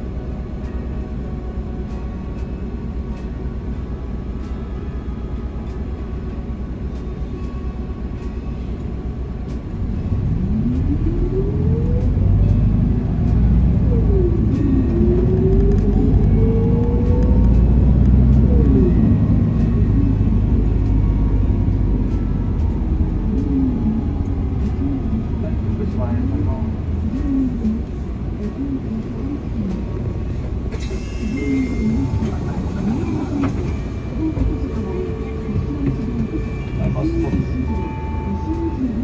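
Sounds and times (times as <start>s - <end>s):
bus engine rumbling: 0.0s - 39.0s
drivetrain whine: 0.0s - 39.0s.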